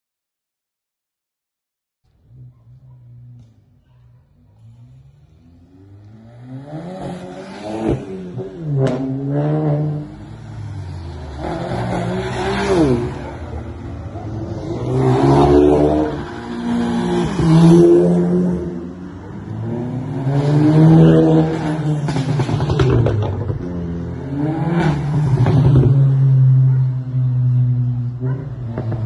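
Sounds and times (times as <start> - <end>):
cars accelerating past: 4.5 - 29.0.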